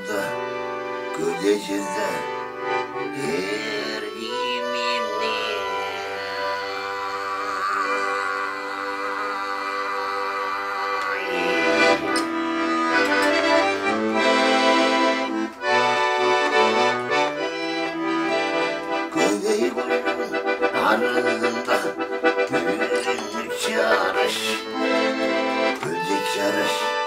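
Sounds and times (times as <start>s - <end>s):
button accordion playing: 0.0s - 27.0s.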